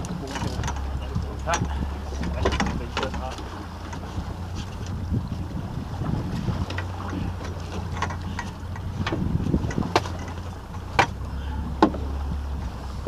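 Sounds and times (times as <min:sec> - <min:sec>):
fishing gear clicks and knocks: 0:00.0 - 0:05.0, 0:06.3 - 0:12.1
boat engine running: 0:00.0 - 0:13.0.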